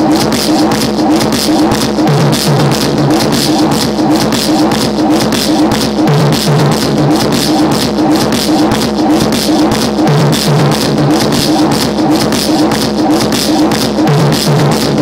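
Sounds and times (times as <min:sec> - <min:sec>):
fast driving electronic beat: 0:00.0 - 0:15.0.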